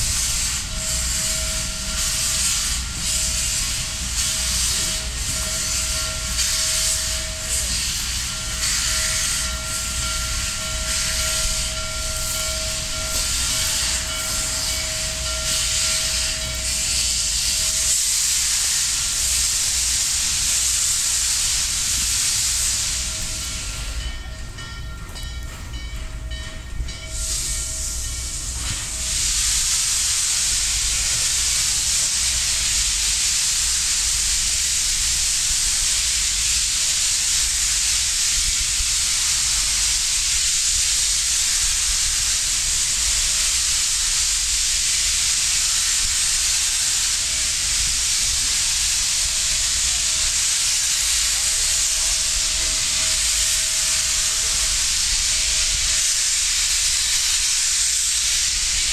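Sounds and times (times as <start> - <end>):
steam locomotive chime whistle: 0.0 - 58.8
loud hiss of steam: 0.0 - 58.9.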